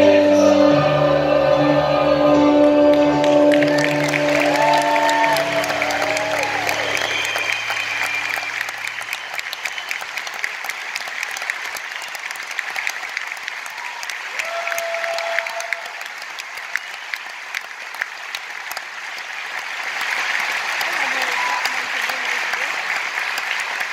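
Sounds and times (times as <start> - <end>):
audience applauding: 2.8 - 23.9.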